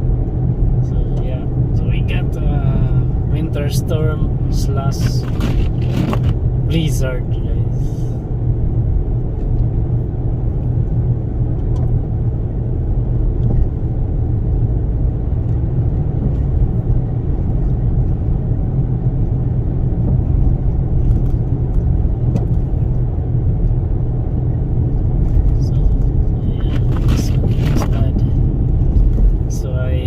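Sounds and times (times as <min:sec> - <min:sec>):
road and wind rumble in car: 0:00.0 - 0:30.0.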